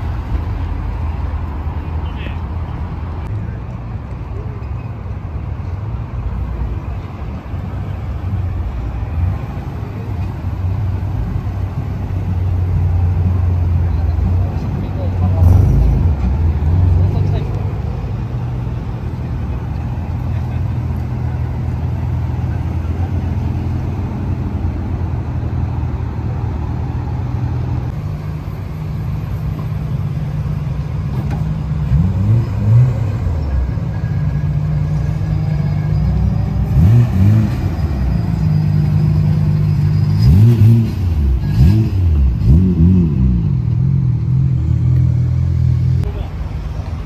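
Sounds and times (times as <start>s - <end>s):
car engines idling: 0.0s - 47.0s.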